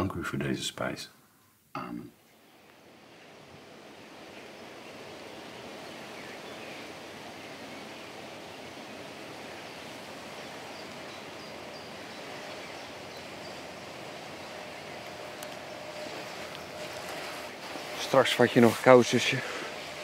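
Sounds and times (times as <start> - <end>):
soft hiss of open air: 0.0 - 20.0.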